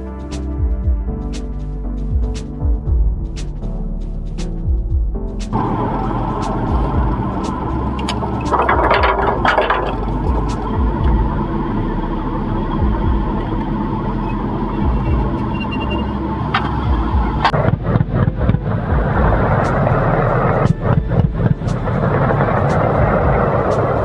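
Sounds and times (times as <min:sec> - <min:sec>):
vehicle engine running: 0:04.7 - 0:24.0.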